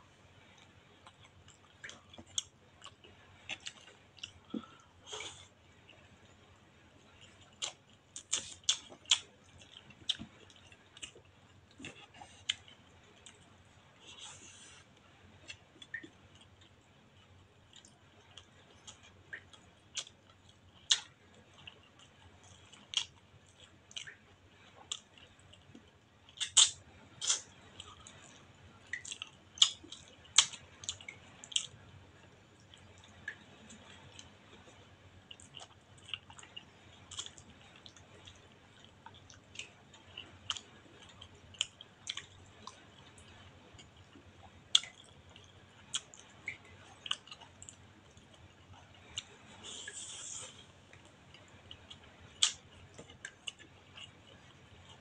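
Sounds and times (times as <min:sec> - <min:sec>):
wet chewing and lip smacks: 0:07.1 - 0:24.2, 0:24.9 - 0:55.0.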